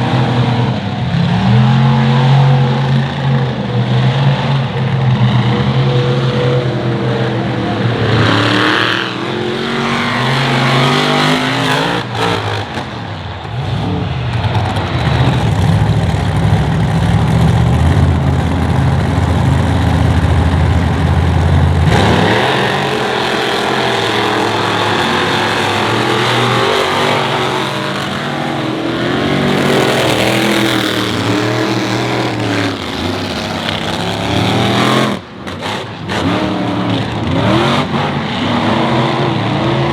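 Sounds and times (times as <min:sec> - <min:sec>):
monster truck engines revving: 0:00.0 - 0:39.9.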